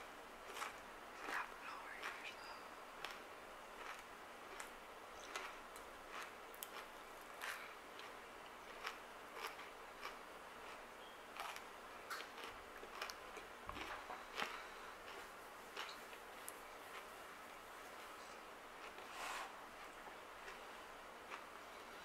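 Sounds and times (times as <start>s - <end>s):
cereal crunching while chewed: 0.4s - 2.4s, 3.0s - 21.9s.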